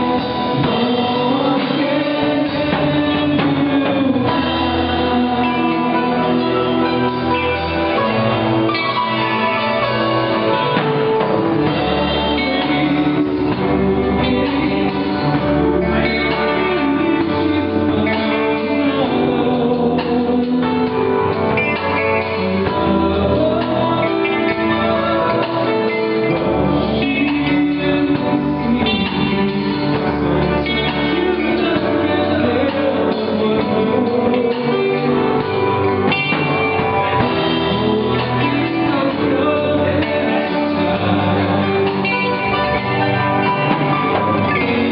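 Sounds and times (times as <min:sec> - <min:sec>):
live band with guitar: 0:00.0 - 0:44.9
person singing: 0:00.0 - 0:44.9.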